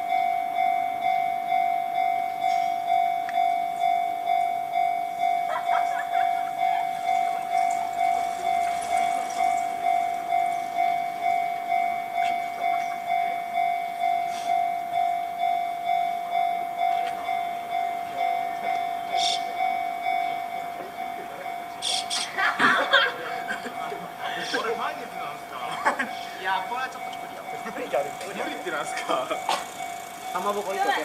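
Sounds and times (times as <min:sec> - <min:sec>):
level crossing alarm ringing: 0:00.0 - 0:31.0.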